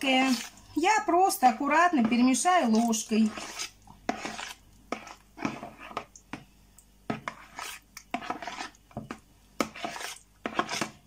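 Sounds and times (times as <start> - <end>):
spoon scraping plastic bowl: 0.0 - 0.6, 1.3 - 6.4, 7.1 - 11.0.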